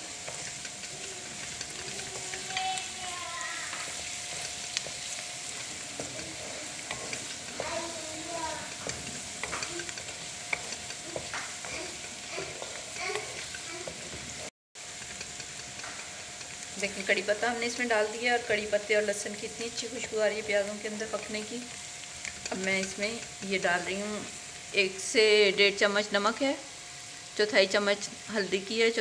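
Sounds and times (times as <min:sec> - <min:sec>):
wooden spatula scraping wok: 0:00.0 - 0:27.4
onions sizzling in hot oil: 0:00.0 - 0:29.0.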